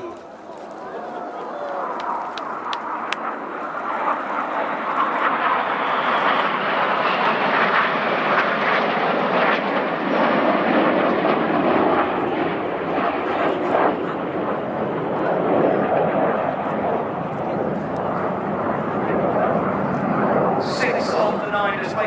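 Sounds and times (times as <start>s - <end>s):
jets flying past: 0.0s - 22.0s.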